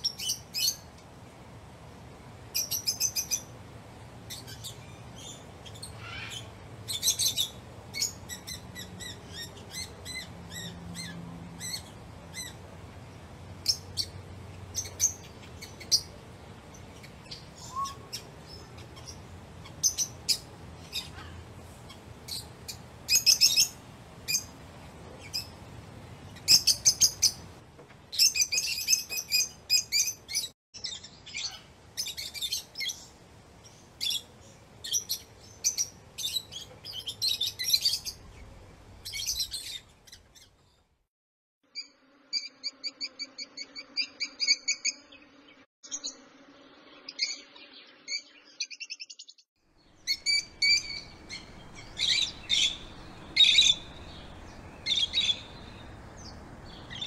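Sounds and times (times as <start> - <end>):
lovebirds chirping: 0.0 - 1.0, 2.5 - 40.8, 47.2 - 57.0.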